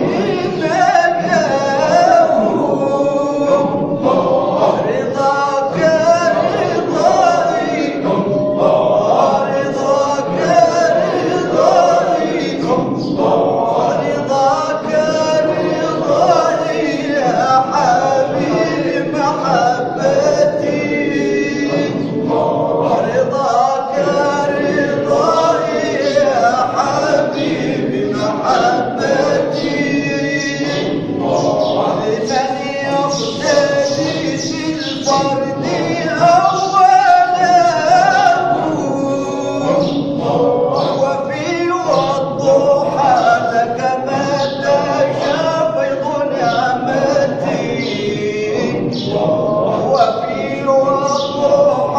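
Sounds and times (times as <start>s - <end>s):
group of voices chanting: 0.0s - 51.9s.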